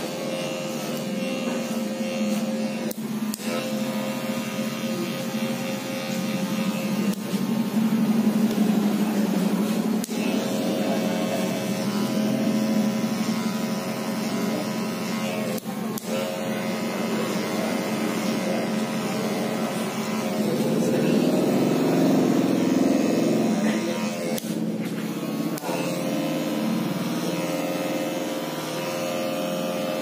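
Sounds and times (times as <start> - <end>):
electric hair clipper buzzing: 0.0 - 30.0.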